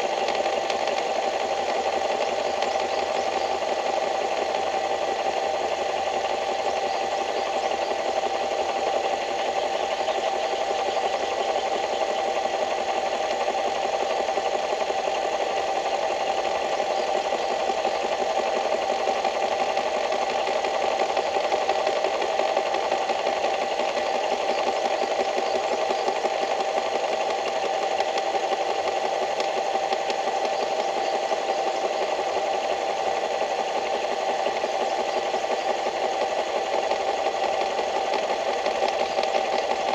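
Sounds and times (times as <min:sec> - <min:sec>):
small engine rattling: 0:00.0 - 0:39.9.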